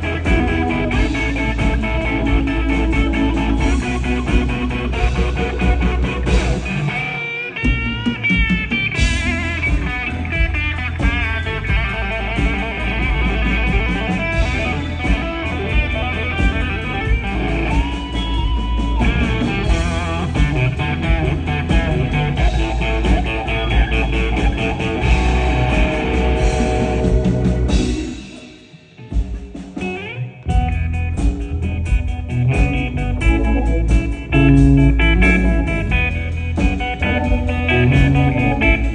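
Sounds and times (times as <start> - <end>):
electric blues music: 0.0 - 38.9.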